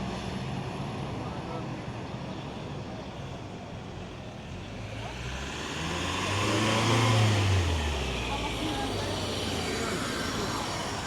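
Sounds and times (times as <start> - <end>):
street background noise: 0.0 - 11.0.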